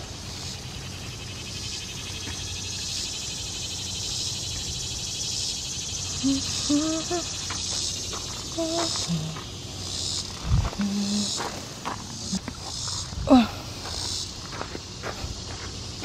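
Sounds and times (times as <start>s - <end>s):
pulsing insect chorus: 0.0s - 16.0s.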